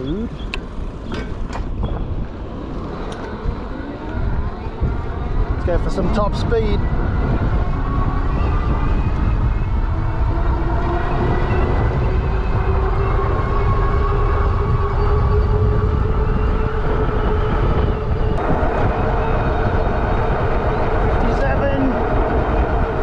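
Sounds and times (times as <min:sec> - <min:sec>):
tyre road noise: 0:00.0 - 0:23.0
wind buffeting microphone: 0:00.0 - 0:23.0
electric motor whining: 0:02.6 - 0:21.4.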